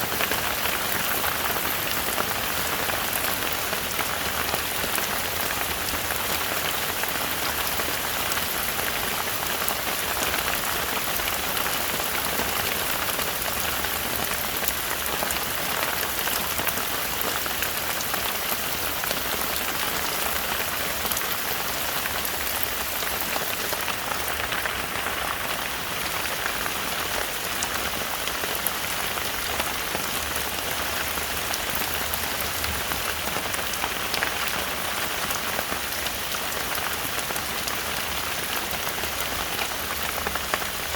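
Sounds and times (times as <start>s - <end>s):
heavy rain in a forest: 0.0s - 40.9s.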